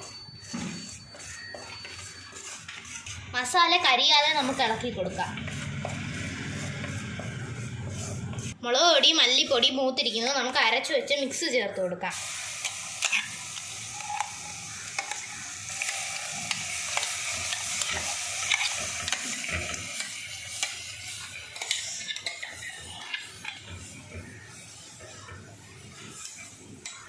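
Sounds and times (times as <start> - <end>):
paste sizzling in hot oil: 0.0 - 8.3, 12.1 - 27.0
spatula scraping a pot: 0.0 - 8.6, 13.0 - 13.4, 14.0 - 27.0.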